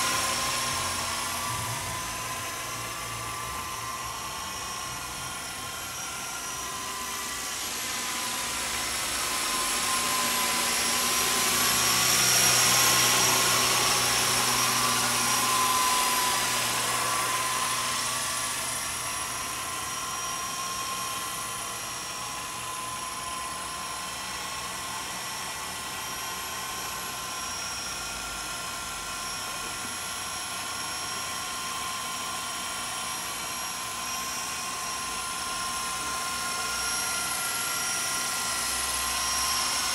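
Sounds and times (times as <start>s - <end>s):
rc helicopter rotor whine: 0.0s - 39.9s.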